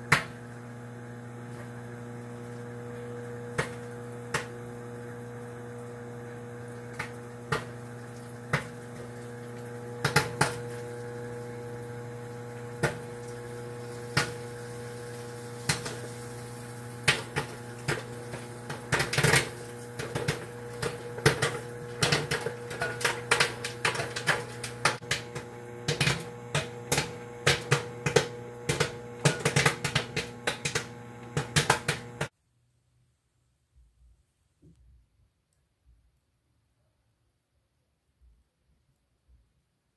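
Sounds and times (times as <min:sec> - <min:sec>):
microwave oven humming: 0:00.0 - 0:32.3
popcorn popping: 0:00.0 - 0:32.3.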